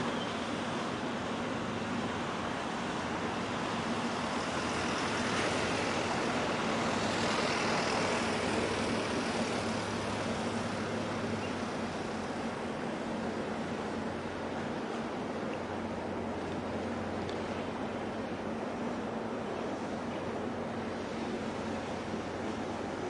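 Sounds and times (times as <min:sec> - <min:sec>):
low engine hum: 0:00.0 - 0:23.0
sea waves washing in: 0:00.0 - 0:23.0.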